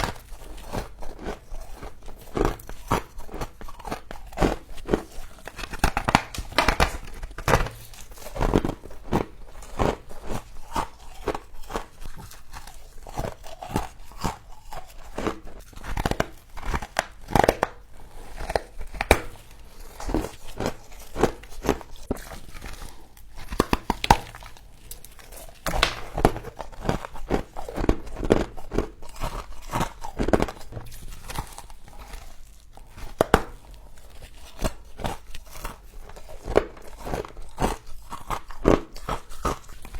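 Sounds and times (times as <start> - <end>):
frost crunching being chewed: 0.0 - 39.9.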